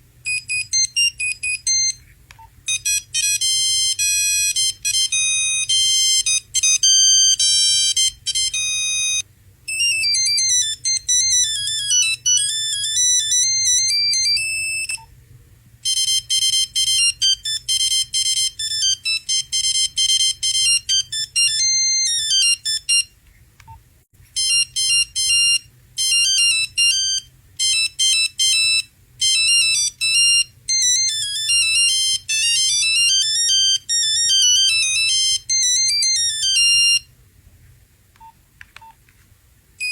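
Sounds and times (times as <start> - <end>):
mobile phone ringtones: 0.3 - 2.0, 2.7 - 15.1, 15.8 - 23.1, 24.4 - 37.1.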